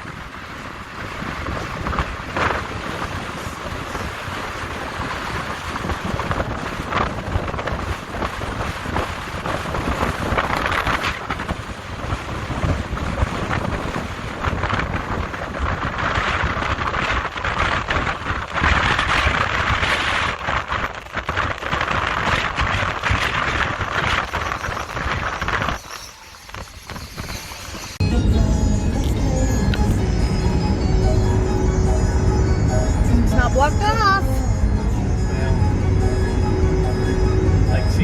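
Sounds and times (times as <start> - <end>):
low rumble: 0.0 - 38.0
wind buffeting microphone: 0.0 - 38.0.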